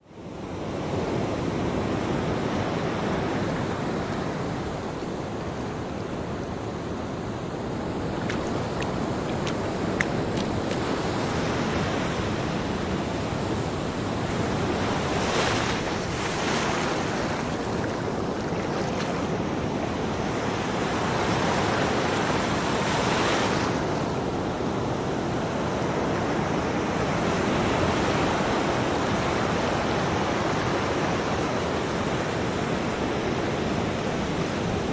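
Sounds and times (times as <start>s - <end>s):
ocean surf washing onto beach: 0.4s - 34.9s.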